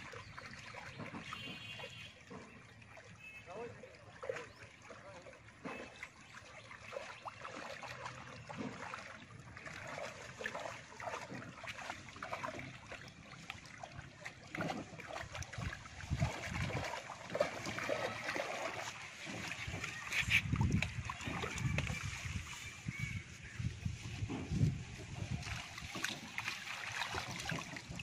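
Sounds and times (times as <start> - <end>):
shallow water sloshing and splashing: 0.0 - 28.0.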